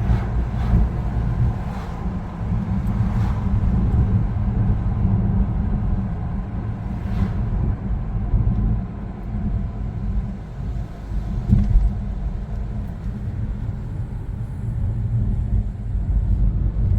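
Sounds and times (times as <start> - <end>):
car road and engine rumble: 0.0 - 16.9.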